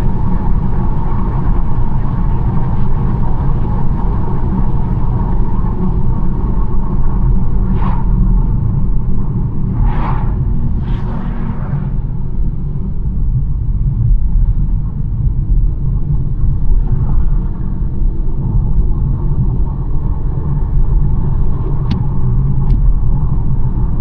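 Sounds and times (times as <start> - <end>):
car driving on road: 0.0 - 23.9.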